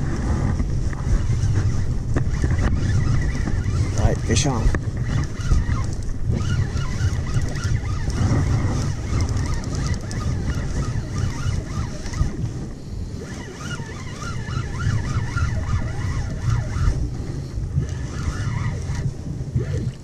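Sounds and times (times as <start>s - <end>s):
water washing around kayak: 0.0s - 20.0s
wind buffeting microphone: 0.0s - 20.0s.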